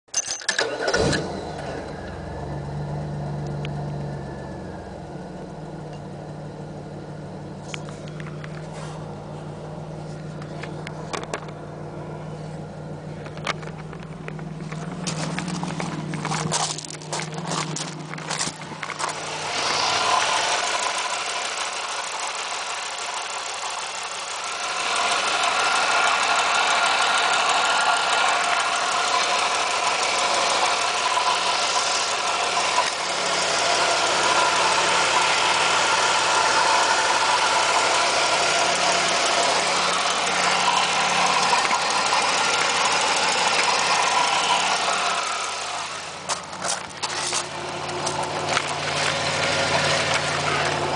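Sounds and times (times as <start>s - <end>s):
car engine running: 0.6s - 50.9s
engine ticking noise: 7.6s - 50.9s.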